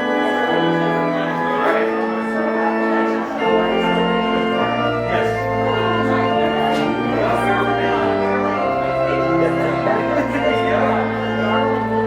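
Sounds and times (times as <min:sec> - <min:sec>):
church organ chords: 0:00.0 - 0:12.0.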